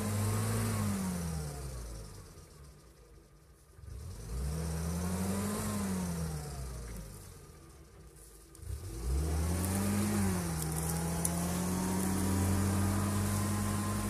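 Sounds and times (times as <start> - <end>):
engine straining and revving: 0.0 - 2.8, 3.8 - 7.9, 8.5 - 14.0.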